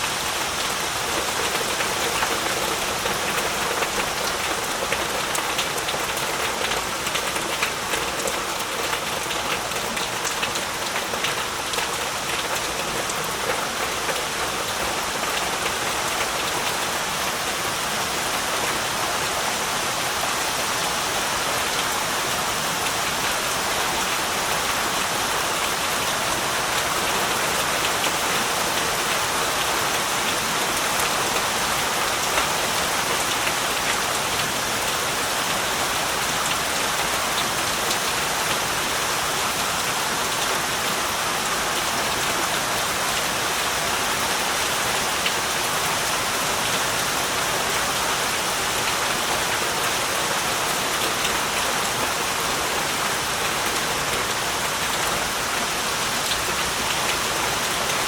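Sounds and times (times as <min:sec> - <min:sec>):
raindrops pattering on surfaces: 0:00.0 - 0:58.0.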